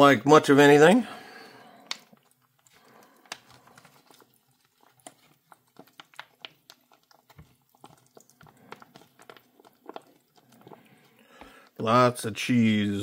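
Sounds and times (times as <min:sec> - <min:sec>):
wet eating clicks and smacks: 0:00.8 - 0:11.9.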